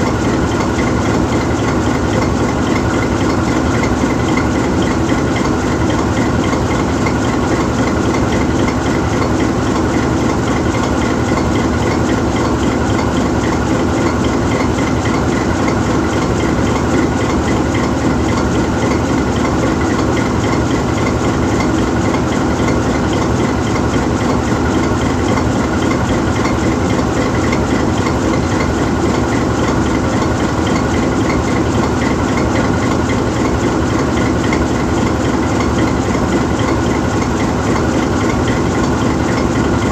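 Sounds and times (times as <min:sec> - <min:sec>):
diesel locomotive idling: 0:00.0 - 0:39.9.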